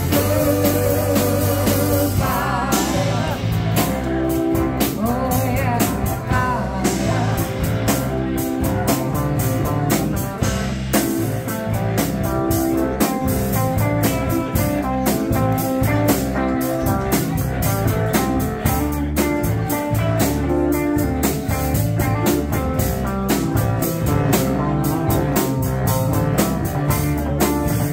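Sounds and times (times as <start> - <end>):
drum kit: 0.0 - 27.9
electric keyboard: 0.0 - 27.9.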